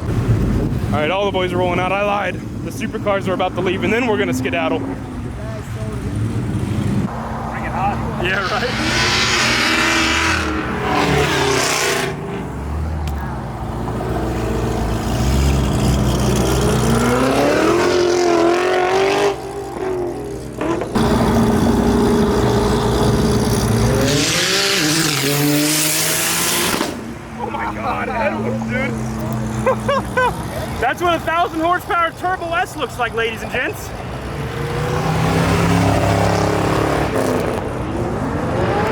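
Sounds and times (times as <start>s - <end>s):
car engines revving and accelerating: 0.0s - 38.9s.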